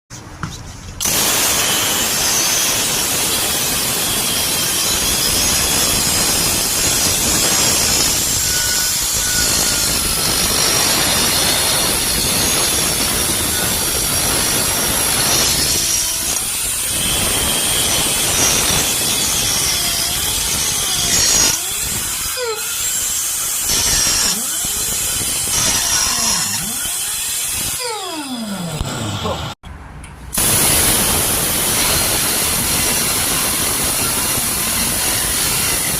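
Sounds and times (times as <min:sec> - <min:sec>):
pneumatic air grinder hissing: 0:01.0 - 0:29.4, 0:30.3 - 0:35.9.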